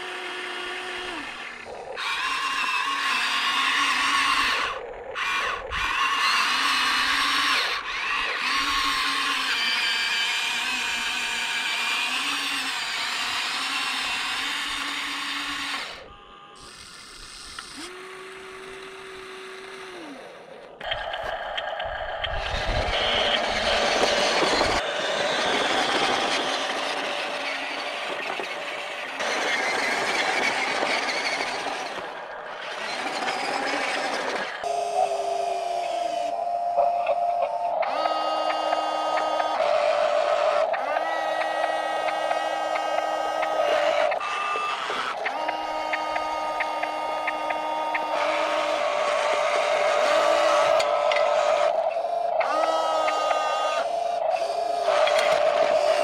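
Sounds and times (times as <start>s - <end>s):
small electric motors whining: 0.0s - 56.0s.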